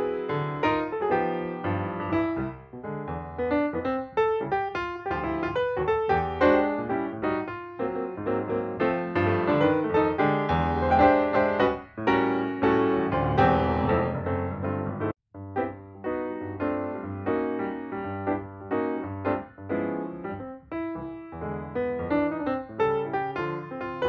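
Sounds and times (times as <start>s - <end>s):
background piano music: 0.0s - 24.0s.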